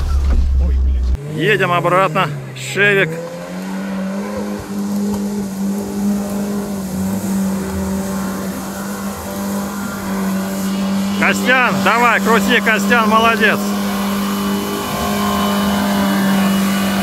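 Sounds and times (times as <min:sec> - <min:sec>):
car engine running: 0:00.0 - 0:17.0
wheels churning and splashing water: 0:00.0 - 0:17.0.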